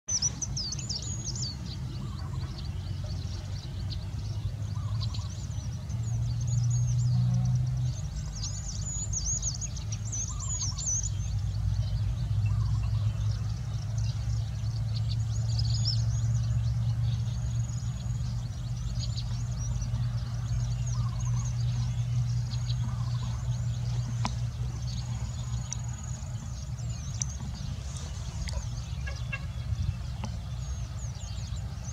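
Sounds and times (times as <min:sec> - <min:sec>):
low motor hum: 0:00.1 - 0:31.9
small birds chirping: 0:00.1 - 0:31.9.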